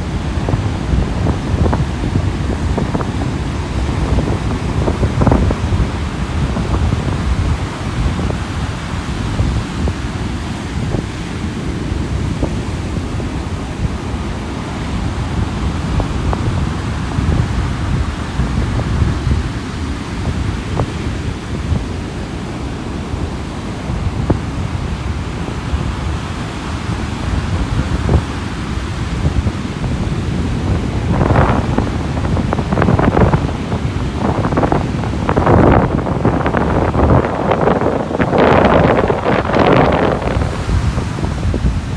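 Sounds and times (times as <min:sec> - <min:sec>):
surf breaking on a beach: 0:00.0 - 0:41.9
wind buffeting microphone: 0:00.0 - 0:41.9.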